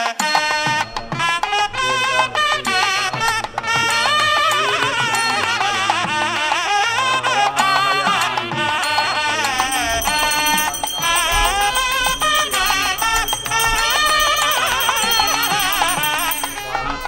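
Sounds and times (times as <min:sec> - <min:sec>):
ornamented melody with percussion: 0:00.0 - 0:17.0.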